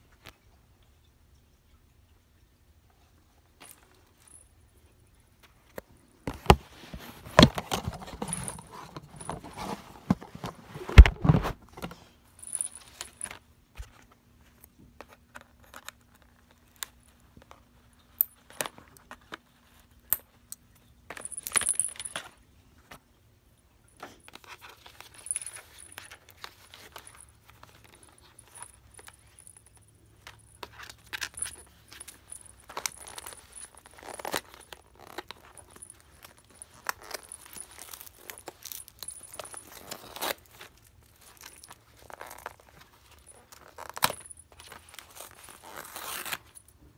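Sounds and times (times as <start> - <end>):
handling knocks and rustles: 5.4 - 23.0, 23.9 - 46.9.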